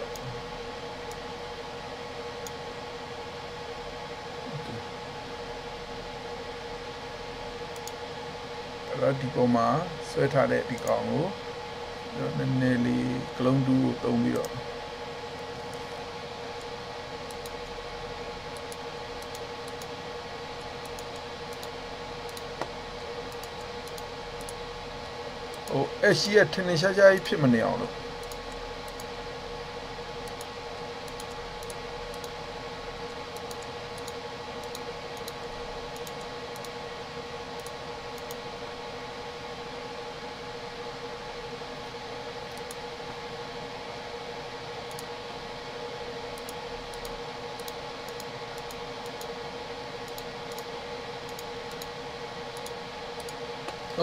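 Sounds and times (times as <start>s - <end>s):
constant hum: 0.0s - 54.0s.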